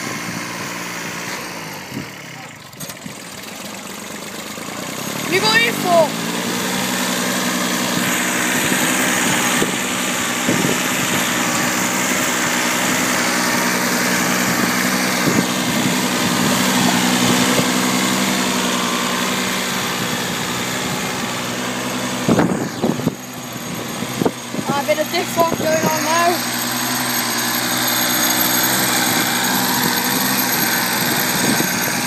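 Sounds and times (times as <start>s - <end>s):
tractor diesel engine under load: 0.0s - 32.0s.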